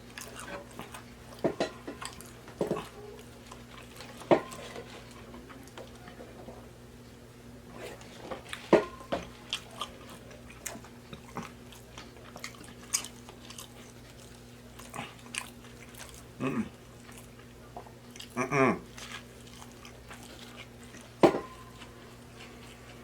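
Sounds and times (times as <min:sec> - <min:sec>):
close-up chewing: 0:00.0 - 0:06.6, 0:07.7 - 0:23.0.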